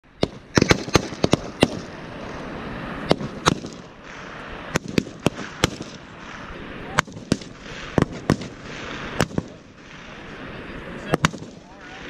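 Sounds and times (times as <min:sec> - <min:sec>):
rifle shots: 0:00.2 - 0:02.0, 0:03.0 - 0:12.0.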